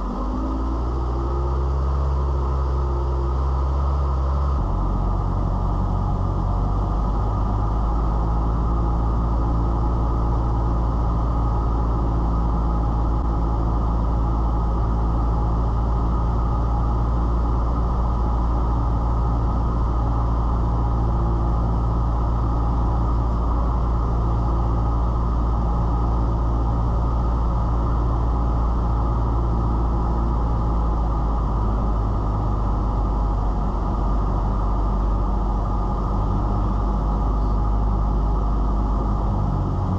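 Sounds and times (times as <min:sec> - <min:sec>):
muffled propeller engine droning: 0:00.0 - 0:39.9.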